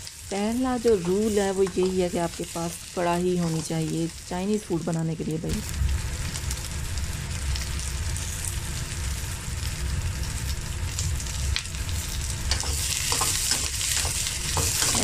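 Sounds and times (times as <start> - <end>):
vegetables sizzling in a wok: 0.0 - 15.0.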